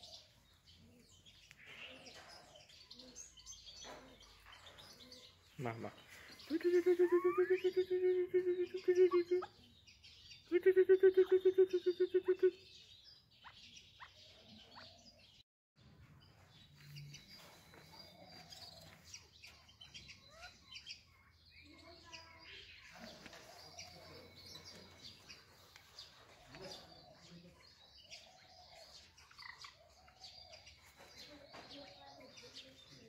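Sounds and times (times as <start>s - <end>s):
faint bird chirps and calls: 0.0s - 15.4s, 16.3s - 33.0s.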